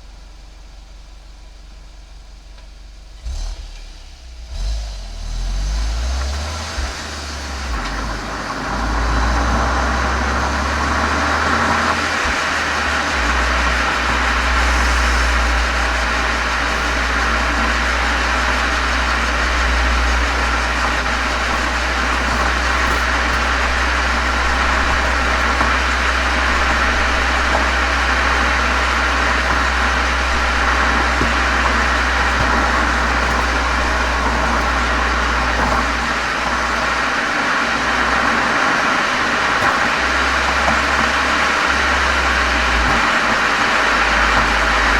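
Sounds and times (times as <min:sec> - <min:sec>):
car exhaust low drone: 0:00.0 - 0:44.9.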